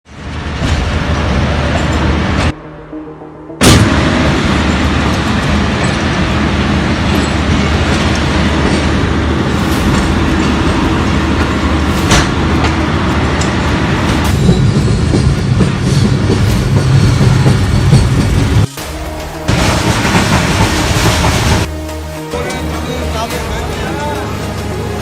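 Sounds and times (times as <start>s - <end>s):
train rumbling on track: 0.0s - 2.8s, 3.6s - 25.0s.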